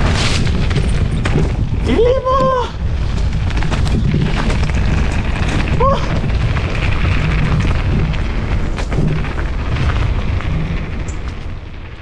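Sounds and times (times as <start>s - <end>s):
bike rattling over trail: 0.0s - 12.0s
wind buffeting microphone: 0.0s - 12.0s.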